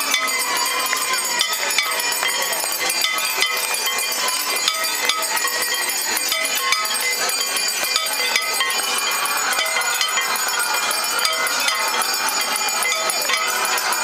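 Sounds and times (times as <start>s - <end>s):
metal bells clanging: 0.0s - 14.0s.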